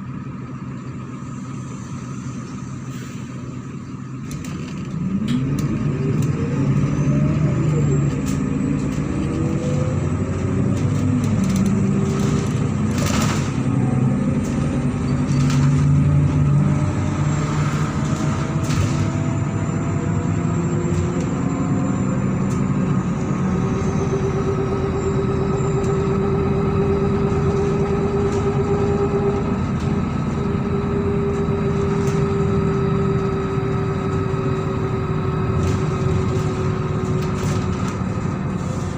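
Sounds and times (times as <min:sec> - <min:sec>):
bus diesel engine: 0:00.0 - 0:38.9.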